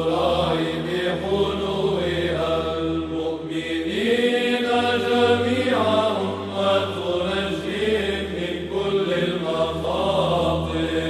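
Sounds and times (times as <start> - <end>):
chant melodic vocal line: 0.0 - 11.0
low held vocal drone: 0.0 - 11.0.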